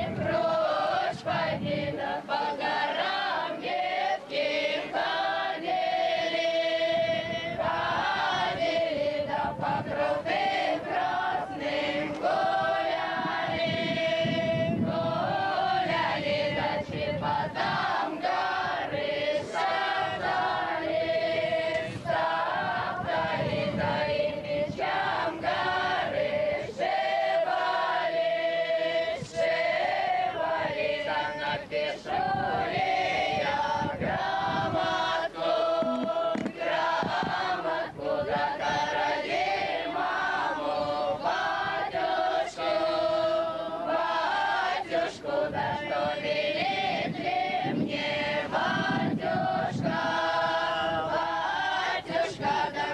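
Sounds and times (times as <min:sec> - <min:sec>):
group singing folk song: 0:00.0 - 0:52.9.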